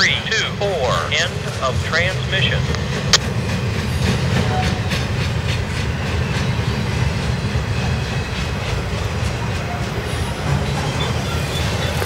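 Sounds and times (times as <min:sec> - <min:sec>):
freight train rumbling past: 0:00.0 - 0:12.0
train wheel clicks: 0:02.0 - 0:12.0.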